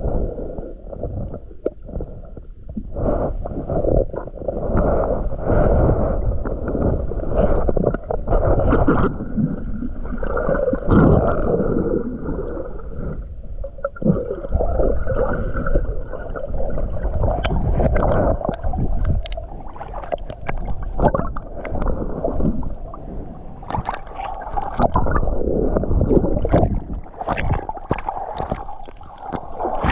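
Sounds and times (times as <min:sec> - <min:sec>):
underwater gurgle of moving water: 0:00.0 - 0:29.9.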